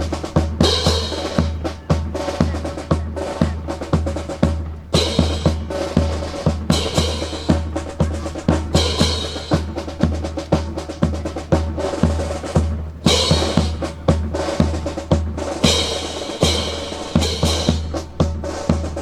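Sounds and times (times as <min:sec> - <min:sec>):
snare and bass drum cadence: 0:00.0 - 0:19.0
snare drum rolls: 0:00.0 - 0:19.0.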